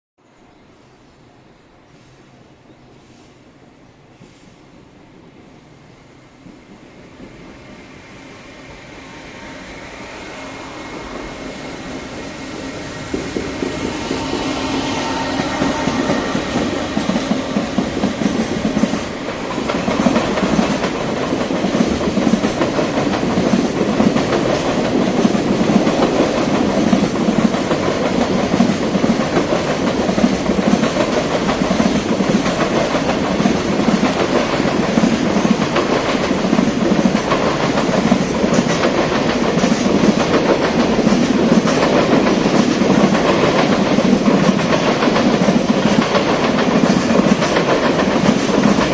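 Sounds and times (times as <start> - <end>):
freight train passing: 0.4 - 48.9
train wheels clacking on rails: 9.4 - 48.9.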